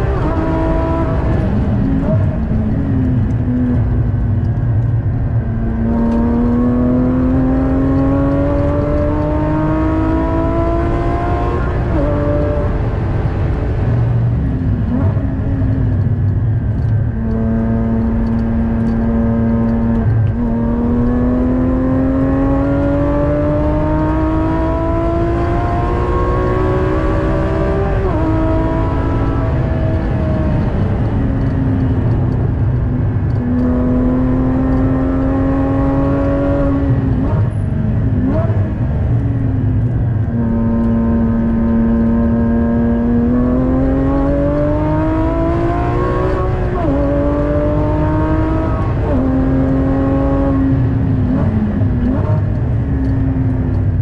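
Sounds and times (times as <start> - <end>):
car engine revving with upshifts: 0.0 - 54.0
road and wind rumble: 0.0 - 54.0.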